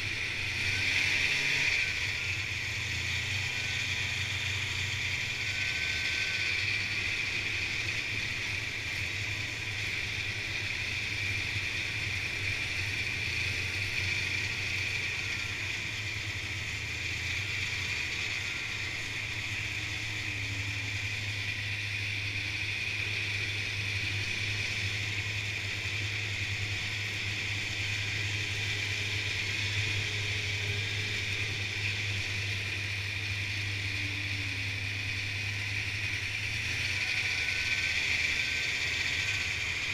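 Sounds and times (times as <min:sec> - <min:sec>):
snowmobile engine droning: 0:00.0 - 0:39.9.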